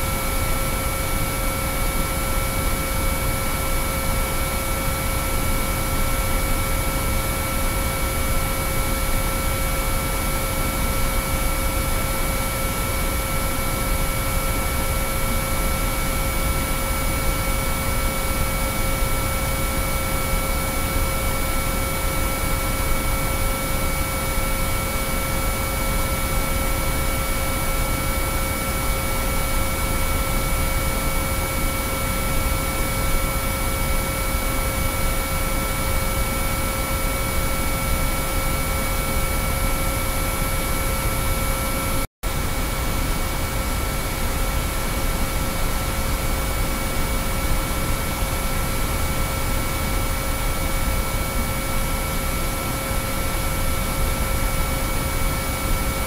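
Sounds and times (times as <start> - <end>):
steady sine-wave tones: 0.0 - 56.0.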